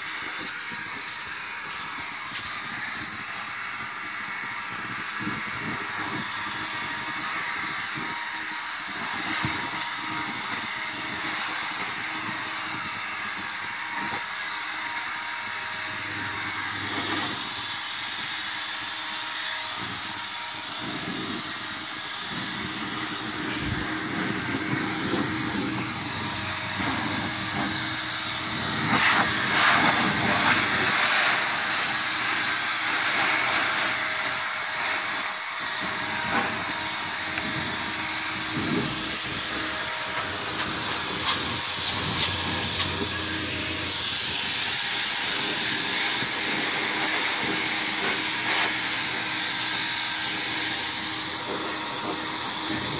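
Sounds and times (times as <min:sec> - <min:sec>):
leaf blower running: 0:00.0 - 0:52.9.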